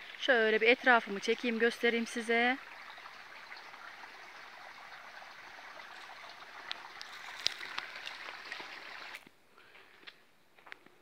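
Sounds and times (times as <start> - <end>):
mountain stream rushing: 0.0 - 9.2.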